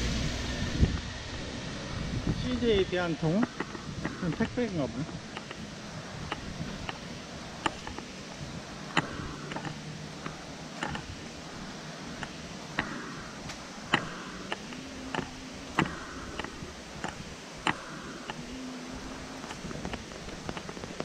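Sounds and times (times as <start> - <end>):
outdoor background noise: 0.0 - 21.0
footsteps on asphalt: 2.7 - 21.0.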